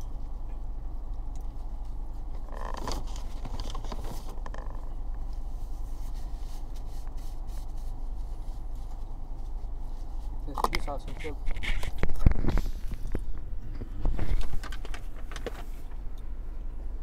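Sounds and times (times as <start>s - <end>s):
low hum in car cabin: 0.0s - 17.0s.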